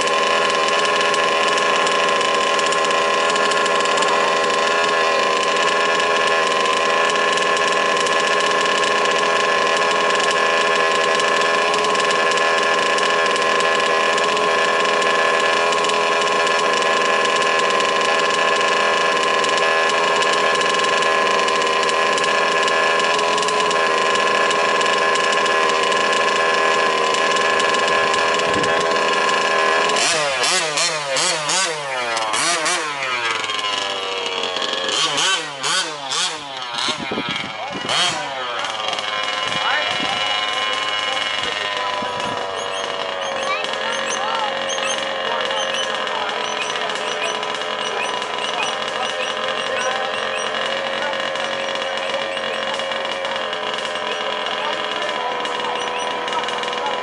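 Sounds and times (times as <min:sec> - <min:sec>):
small engine idling: 0:00.0 - 0:57.0
small engines revving: 0:00.0 - 0:57.0.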